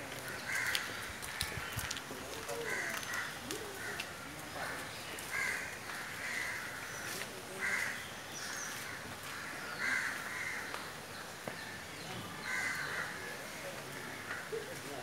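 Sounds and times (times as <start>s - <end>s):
harsh cawing animal calls: 0.2s - 10.9s, 12.4s - 14.7s.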